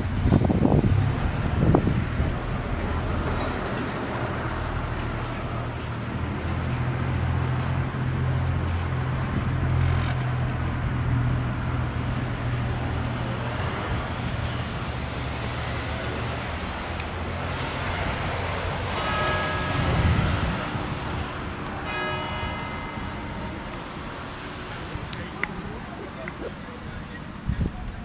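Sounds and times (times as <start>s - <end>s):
outdoor traffic noise: 0.0s - 28.0s.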